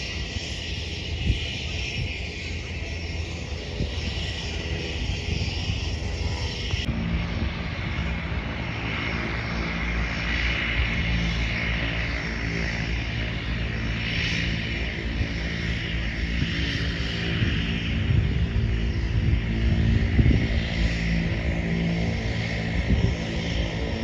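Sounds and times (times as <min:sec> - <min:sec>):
propeller airplane engine running: 0:00.0 - 0:24.0.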